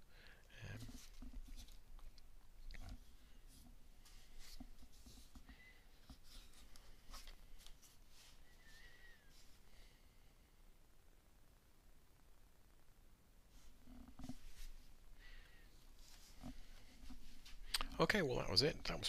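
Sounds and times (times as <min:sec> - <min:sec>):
faint room hum: 0:00.0 - 0:19.0
faint high whines: 0:03.1 - 0:18.8.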